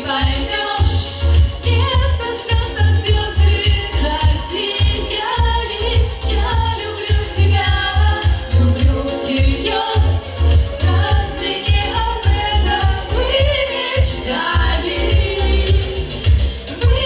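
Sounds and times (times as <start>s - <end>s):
amplified music with bass beat: 0.0s - 17.0s
women singing pop song: 0.0s - 17.0s.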